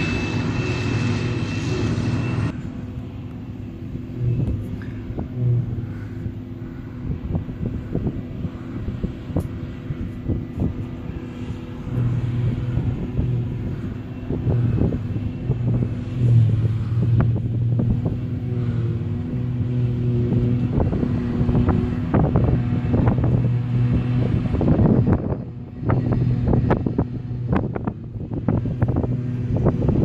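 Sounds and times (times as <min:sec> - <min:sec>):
forage harvester droning: 0:00.0 - 0:30.0
tractor engine: 0:00.0 - 0:30.0
wind buffeting microphone: 0:00.0 - 0:30.0.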